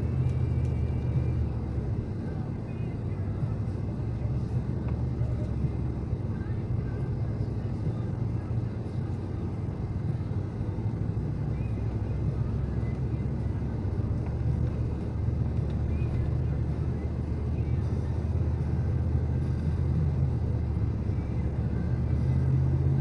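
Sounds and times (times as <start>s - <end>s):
snowblower engine droning: 0.0s - 23.0s.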